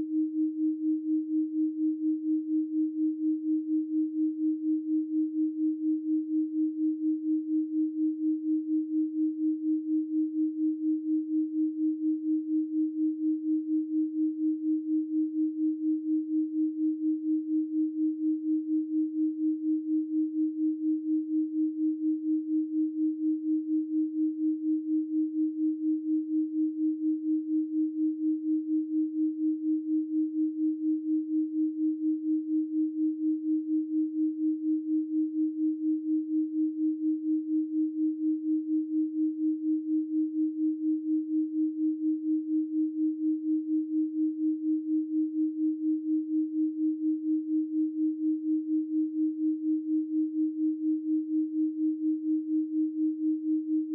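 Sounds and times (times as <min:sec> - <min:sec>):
low pulsing sine tone: 0:00.0 - 0:53.9.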